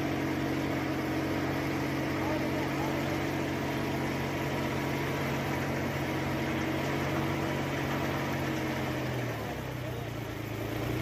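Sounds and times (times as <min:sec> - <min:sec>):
sprayer fan humming: 0:00.0 - 0:09.7.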